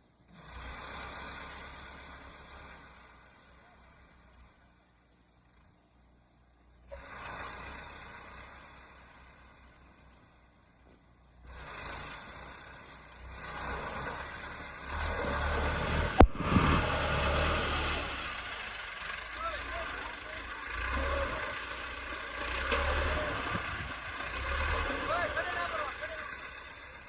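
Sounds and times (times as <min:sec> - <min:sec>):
heavy tractor engines running: 0:00.0 - 0:27.0.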